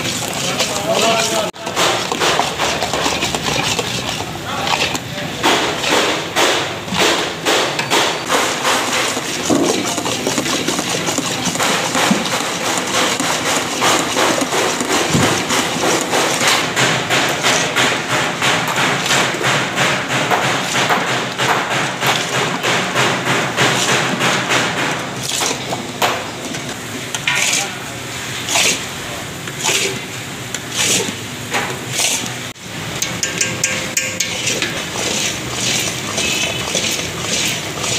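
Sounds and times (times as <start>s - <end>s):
spoon beating batter in steel bowl: 0.0s - 32.4s, 33.0s - 37.9s.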